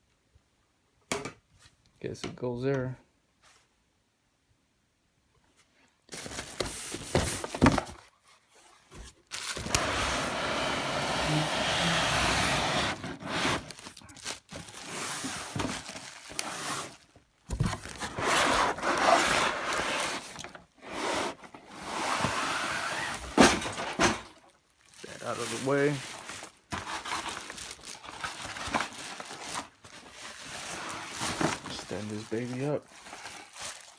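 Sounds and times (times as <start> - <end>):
packaging rustling and scraping: 6.1 - 33.9.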